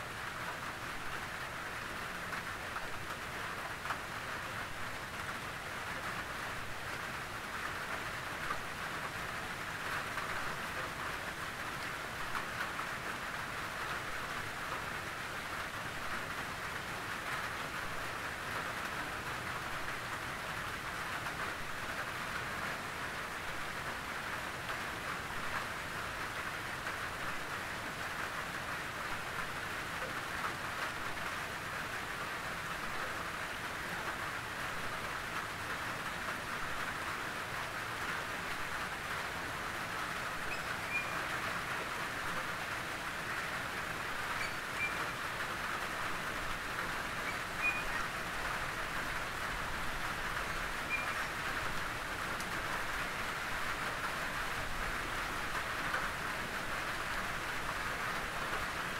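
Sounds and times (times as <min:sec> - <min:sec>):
rain pattering on a tin roof: 0:00.0 - 0:58.9.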